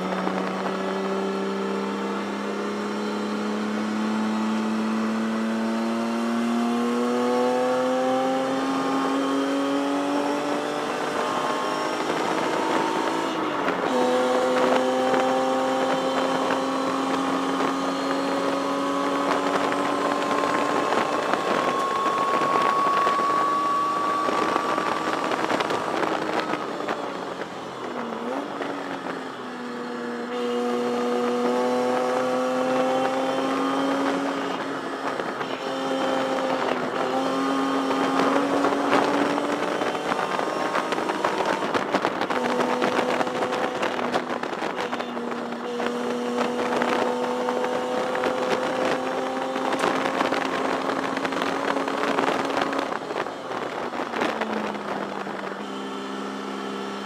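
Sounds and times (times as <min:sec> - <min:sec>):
race car engine revving: 0:00.0 - 0:29.1, 0:29.8 - 0:57.0
road and wind noise: 0:00.0 - 0:57.0.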